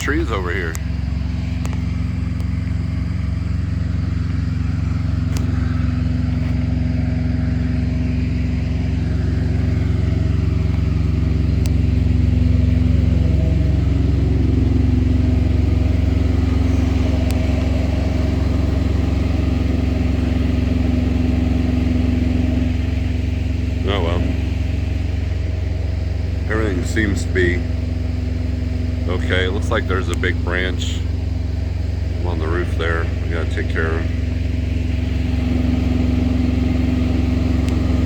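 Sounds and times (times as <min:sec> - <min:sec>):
diesel generator idling: 0:00.0 - 0:38.0.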